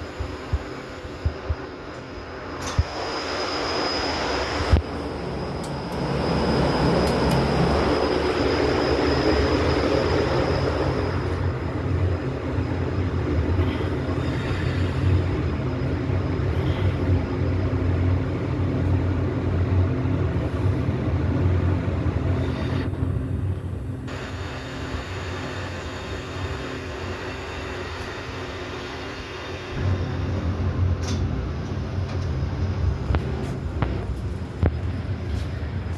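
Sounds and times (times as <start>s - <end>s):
low mechanical rumble and hum: 0.0s - 35.9s.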